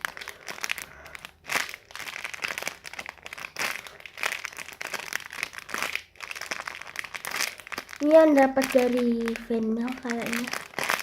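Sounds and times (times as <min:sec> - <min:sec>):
toy crinkling and rustling: 0:00.0 - 0:11.0.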